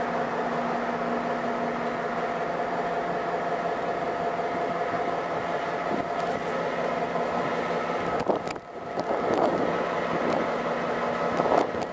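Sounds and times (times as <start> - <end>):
diesel locomotive engine hum: 0.0 - 11.9.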